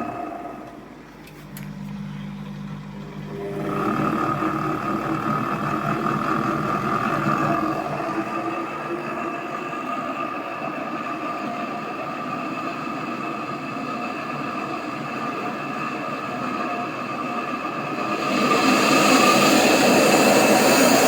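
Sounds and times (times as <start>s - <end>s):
washing machine spinning: 0.0s - 21.0s.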